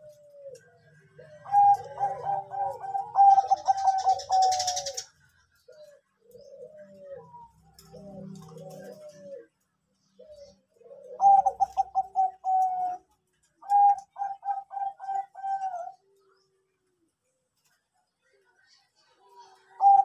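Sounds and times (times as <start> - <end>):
dove cooing: 0.0 - 16.6, 19.5 - 20.0.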